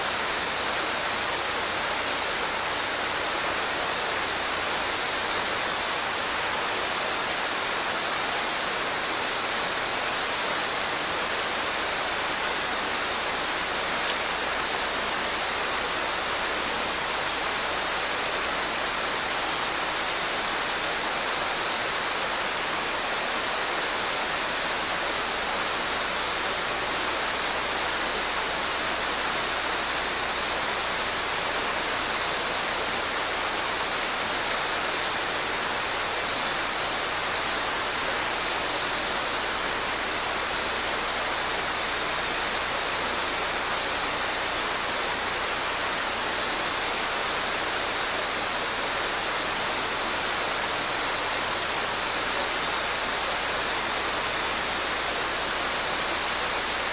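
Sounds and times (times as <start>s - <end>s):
stream water rushing over rocks: 0.0s - 56.9s.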